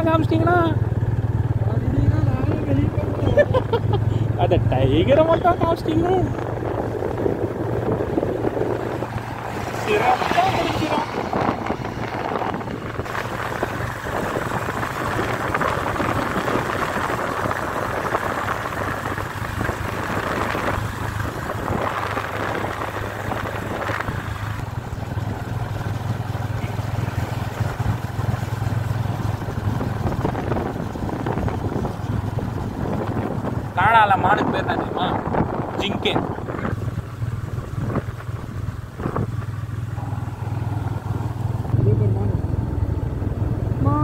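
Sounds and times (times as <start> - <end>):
motorcycle engine running: 0.0 - 44.0
wind rush on microphone: 4.6 - 44.0.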